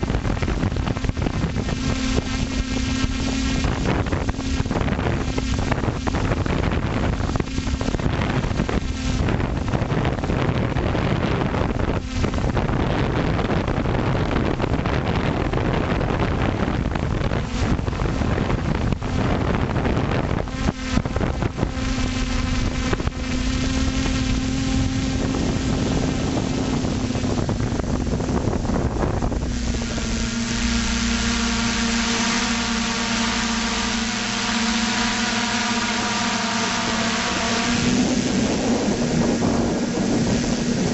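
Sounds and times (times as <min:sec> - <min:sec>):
drone motors whining: 0:00.0 - 0:40.9
wind buffeting microphone: 0:00.0 - 0:40.9.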